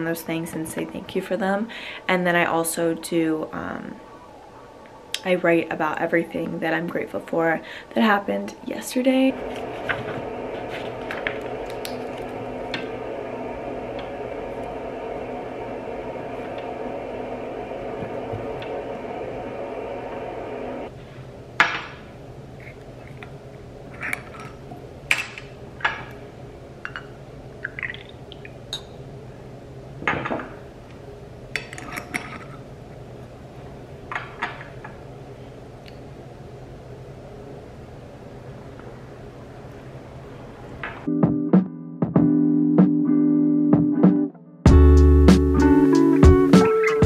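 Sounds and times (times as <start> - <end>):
steady hum: 0.0 - 41.1, 44.7 - 47.0.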